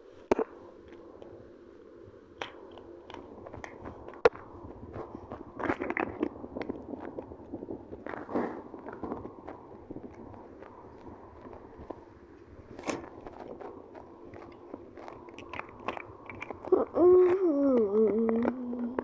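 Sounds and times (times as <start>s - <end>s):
crackly rattling and rustling: 2.2s - 19.0s.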